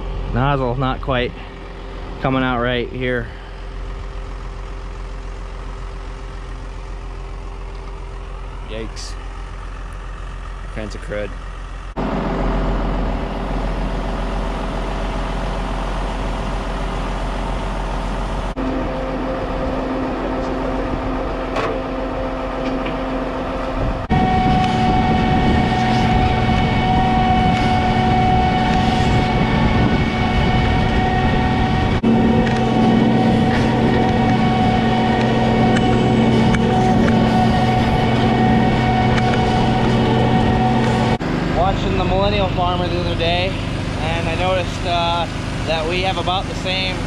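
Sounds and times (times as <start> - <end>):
crop sprayer engine humming: 0.0 - 47.0
high whining tones: 0.0 - 47.0.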